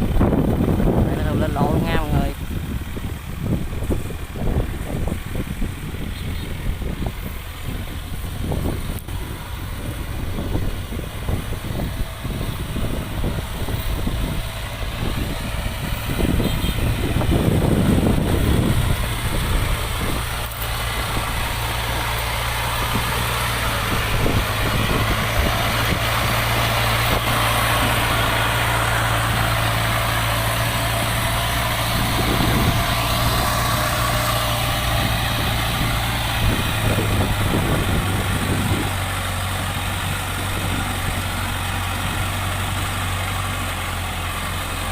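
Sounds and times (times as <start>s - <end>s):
farm machine engine running: 0.0s - 44.9s.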